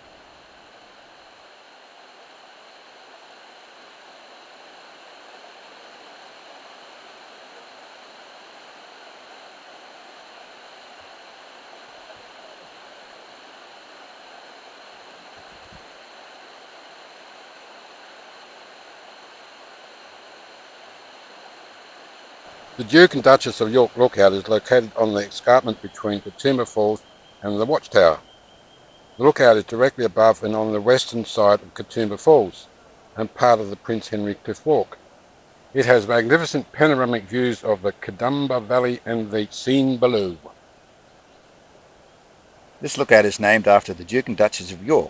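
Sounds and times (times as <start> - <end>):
distant waterfall rushing: 0.0 - 45.0.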